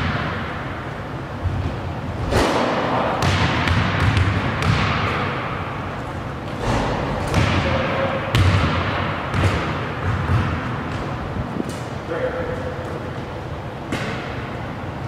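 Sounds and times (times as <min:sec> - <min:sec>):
basketball thudding in echoing gym: 0:00.0 - 0:12.0, 0:13.1 - 0:14.8.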